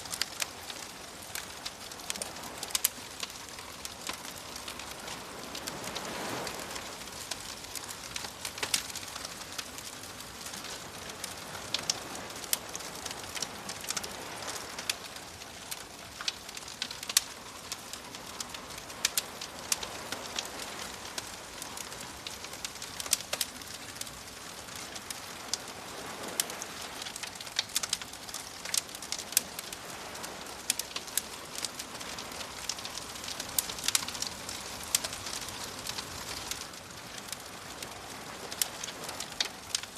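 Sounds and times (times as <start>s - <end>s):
bonfire crackling and popping: 0.0s - 39.9s
gentle waves washing in: 0.0s - 39.9s.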